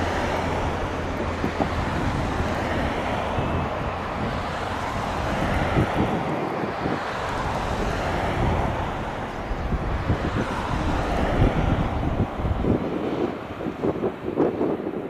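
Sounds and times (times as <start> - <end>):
distant jet engine rush: 0.0 - 15.0
wind buffeting microphone: 0.0 - 15.0.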